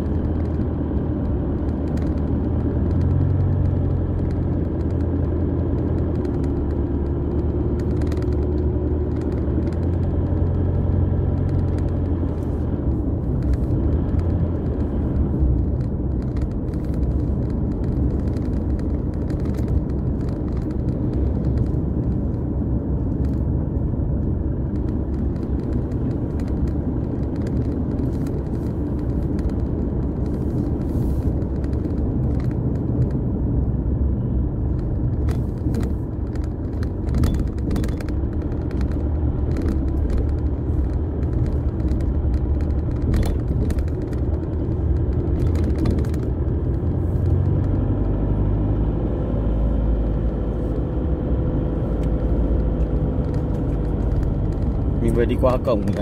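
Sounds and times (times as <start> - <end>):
engine and tyres rumble: 0.0 - 56.0
engine hum: 0.0 - 56.0.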